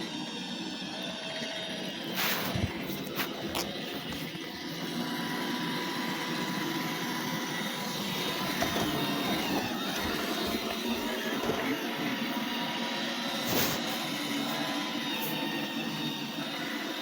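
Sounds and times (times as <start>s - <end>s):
robot vacuum running: 0.0s - 17.0s.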